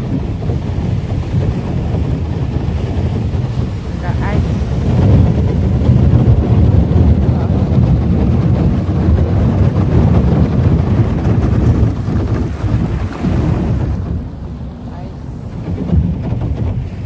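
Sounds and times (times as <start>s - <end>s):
hull crunching through ice: 0.0s - 14.5s
boat motor rumbling: 0.0s - 17.0s.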